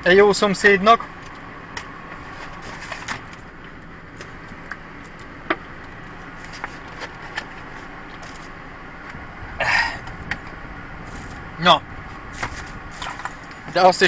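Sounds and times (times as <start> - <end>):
low car cabin hum: 0.0 - 14.0.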